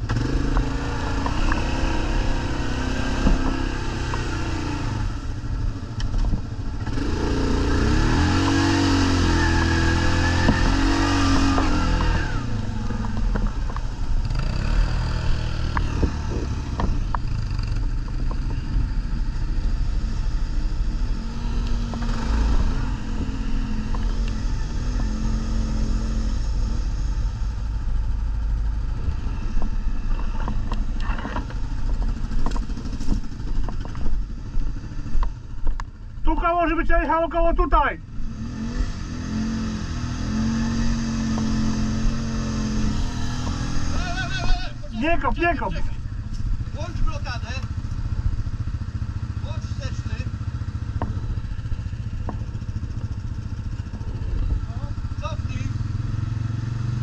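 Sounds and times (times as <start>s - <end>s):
atv engines revving: 0.0s - 57.0s.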